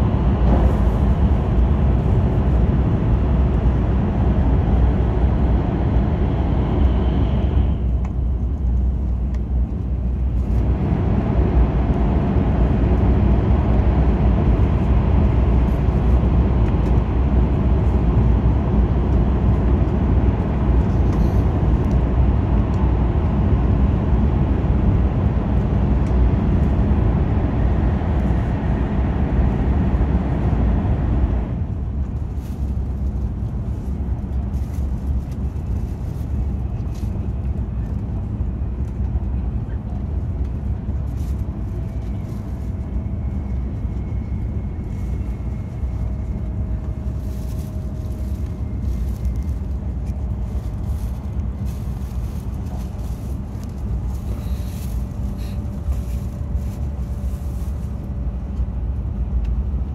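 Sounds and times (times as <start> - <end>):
train rumbling through a tunnel: 0.0 - 59.9.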